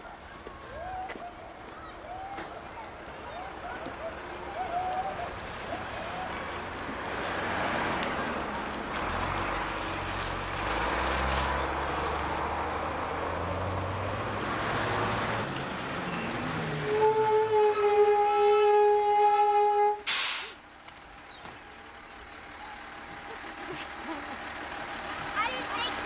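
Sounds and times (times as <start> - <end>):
vehicle engine rumble passing: 0.1 - 19.2, 20.6 - 26.0.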